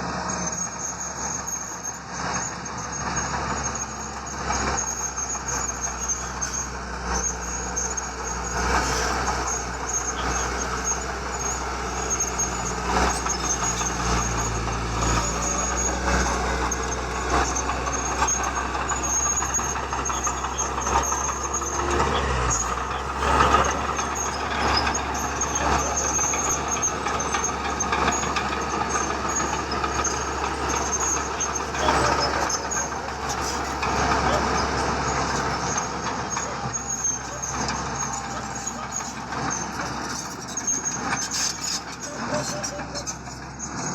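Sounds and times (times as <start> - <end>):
diesel machinery engine drone: 0.0 - 43.9
thin high-pitched squeal: 0.3 - 43.7.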